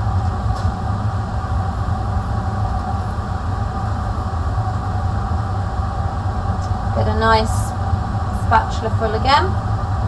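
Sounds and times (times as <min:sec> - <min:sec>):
extraction fan rumbling: 0:00.0 - 0:10.0
faint hum: 0:00.0 - 0:10.0.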